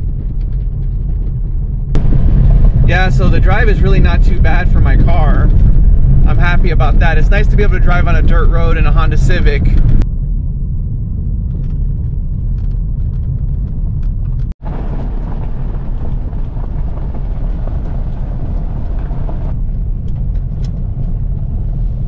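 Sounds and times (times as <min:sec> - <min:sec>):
tyres and engine rumbling: 0:00.0 - 0:22.0.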